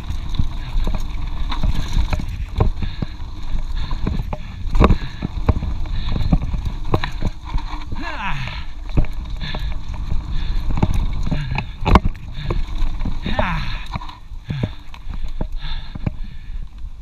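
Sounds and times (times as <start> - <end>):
bike knocks and rattles on bumps: 0.0 - 17.0
mountain bike clattering: 0.0 - 17.0
wind rumble on microphone: 0.0 - 17.0.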